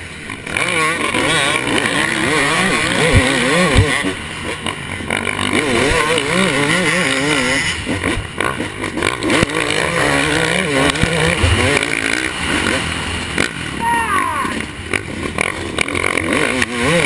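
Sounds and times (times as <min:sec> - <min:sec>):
dirt bike engine revving: 0:00.0 - 0:17.0
wind: 0:00.0 - 0:17.0.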